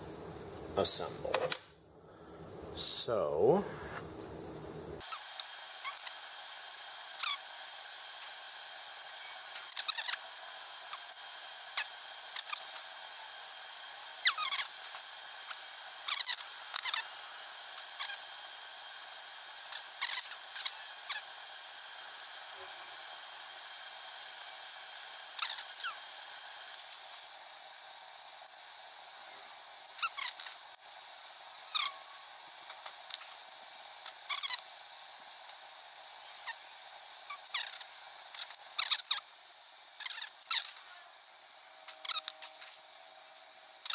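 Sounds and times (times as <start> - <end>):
faint hiss: 0.0 - 43.9.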